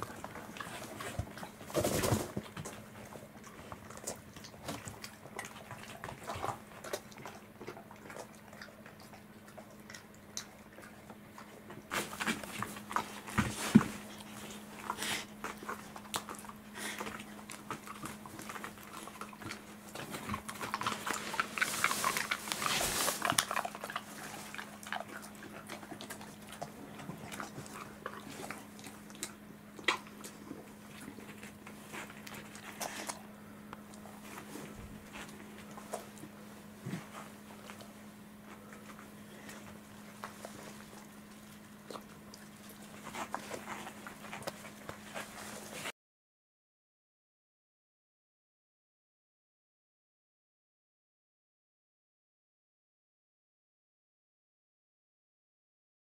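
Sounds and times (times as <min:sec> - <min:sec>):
dogs licking and chewing: 0:00.0 - 0:45.9
faint steady hum: 0:00.0 - 0:45.9.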